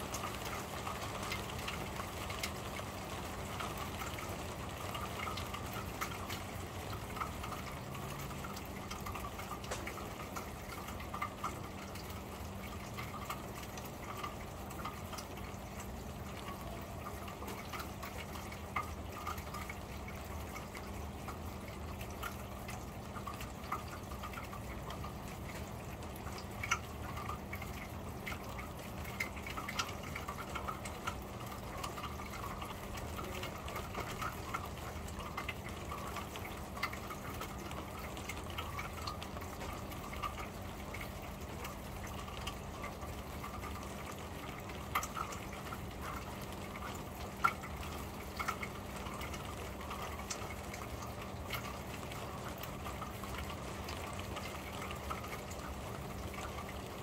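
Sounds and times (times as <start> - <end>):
rain on a metal roof: 0.0 - 57.0
drops ticking on metal: 0.1 - 56.8.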